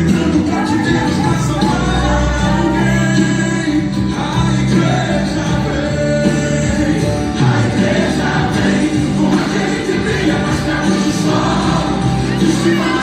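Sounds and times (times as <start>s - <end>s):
gospel song with choir and band: 0.0s - 13.0s.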